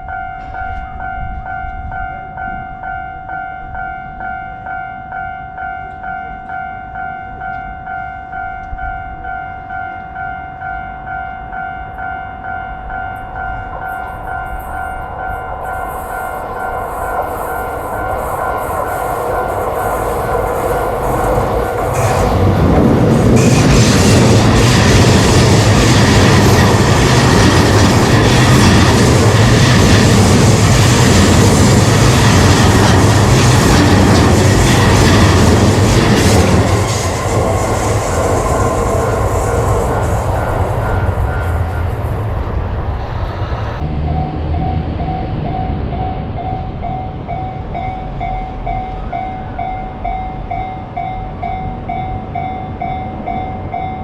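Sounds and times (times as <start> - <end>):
railroad crossing bell ringing: 0.0 - 42.2, 44.1 - 54.0
train passing: 0.0 - 54.0.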